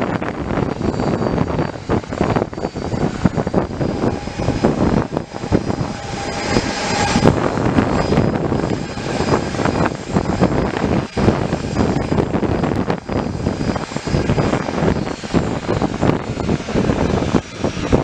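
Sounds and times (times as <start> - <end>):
aircraft engine noise: 0.0 - 18.0.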